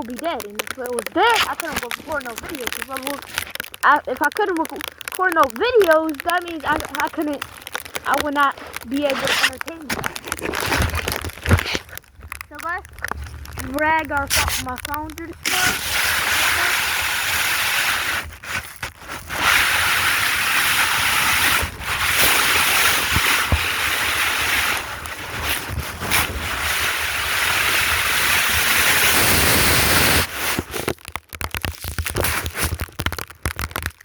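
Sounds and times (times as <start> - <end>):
snow scraping over microphone: 0.0 - 3.6, 6.3 - 31.0.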